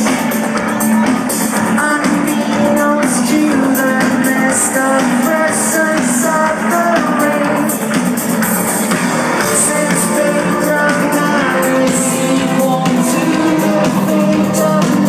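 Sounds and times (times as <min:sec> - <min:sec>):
distorted guitars: 0:00.0 - 0:15.0
drums: 0:00.0 - 0:15.0
live metal band: 0:00.0 - 0:15.0.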